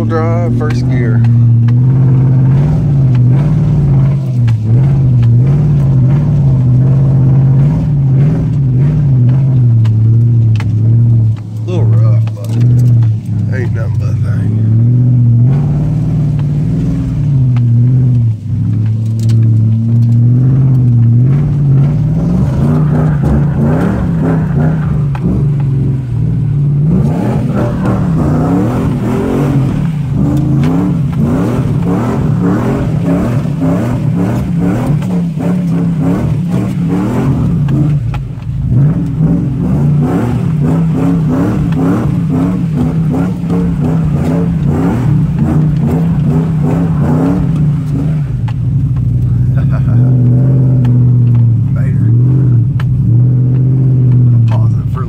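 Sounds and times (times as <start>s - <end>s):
engine revving inside vehicle cab: 0.0s - 55.0s.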